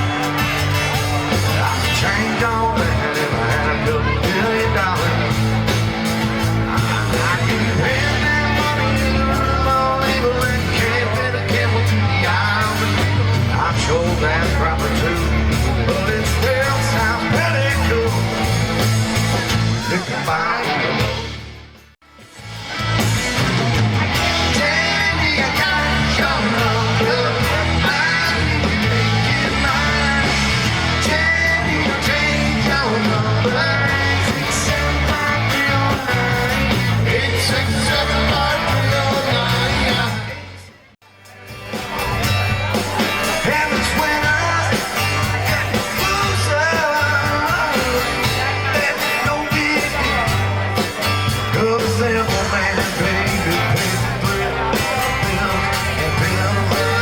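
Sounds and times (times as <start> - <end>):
live country rock band: 0.0 - 57.0.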